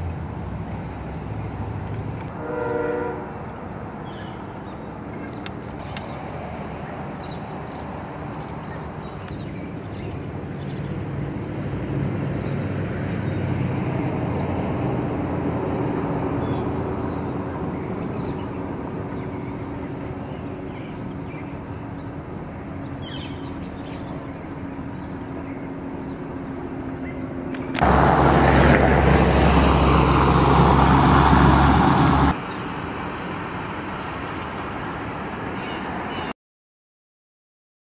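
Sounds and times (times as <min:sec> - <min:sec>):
road traffic engines: 0:00.0 - 0:36.4.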